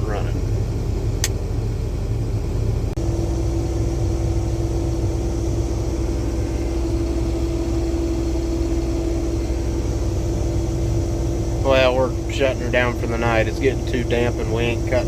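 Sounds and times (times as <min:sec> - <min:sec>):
combine harvester engine rumble: 0:00.0 - 0:15.0.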